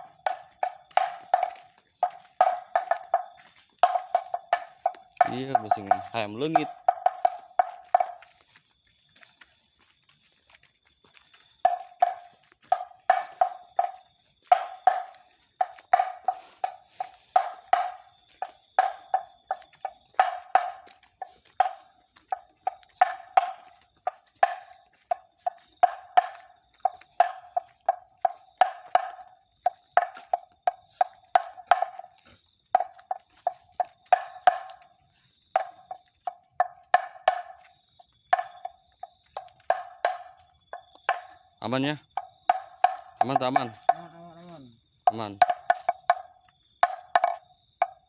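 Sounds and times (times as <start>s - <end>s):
bamboo slit drum knocking: 0.0s - 8.2s, 11.7s - 32.1s, 32.8s - 34.8s, 35.6s - 37.6s, 38.3s - 38.8s, 39.4s - 41.4s, 42.2s - 44.0s, 45.1s - 48.0s
insect chirring: 0.0s - 48.0s.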